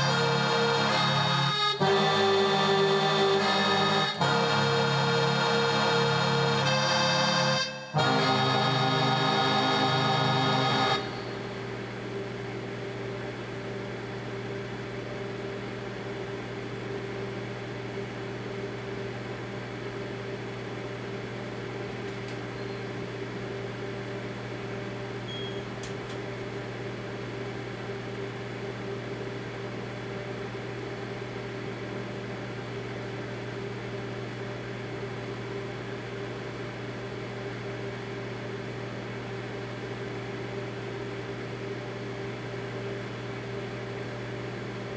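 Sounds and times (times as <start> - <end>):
microwave oven humming: 0.0 - 44.9.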